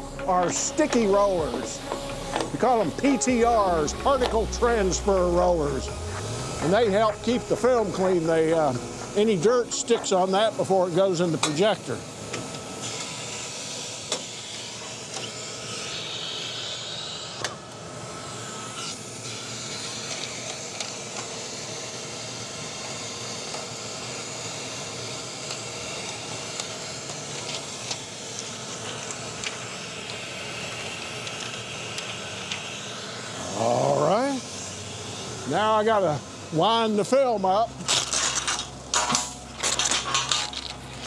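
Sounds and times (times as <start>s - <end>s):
film projector hum and hiss: 0.0s - 41.0s.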